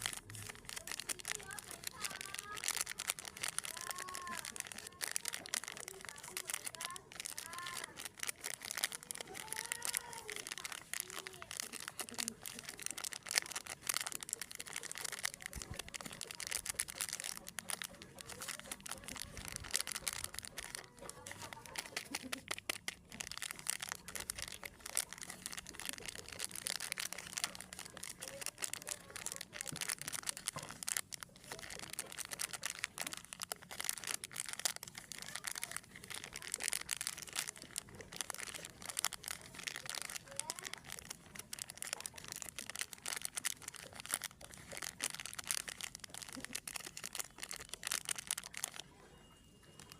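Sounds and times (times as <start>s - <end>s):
plastic wrappers crinkling: 0.0s - 49.0s, 49.7s - 49.9s.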